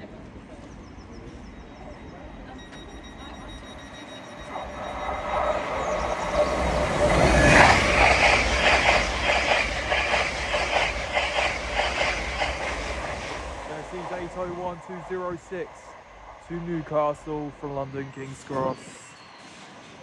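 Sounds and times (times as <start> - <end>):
train passing: 0.0 - 20.0
wheels over rail joints: 0.0 - 20.0.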